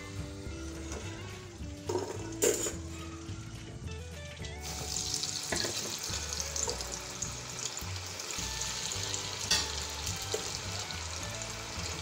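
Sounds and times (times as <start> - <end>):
chickpeas deep-frying in oil: 0.0 - 12.0.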